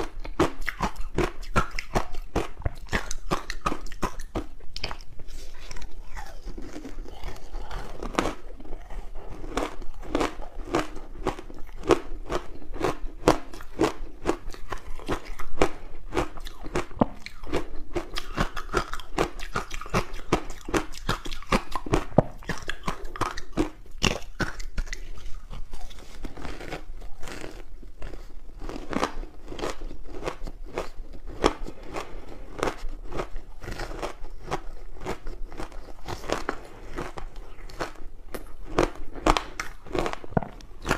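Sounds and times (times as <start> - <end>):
chewing crunchy frozen food: 0.0 - 40.9.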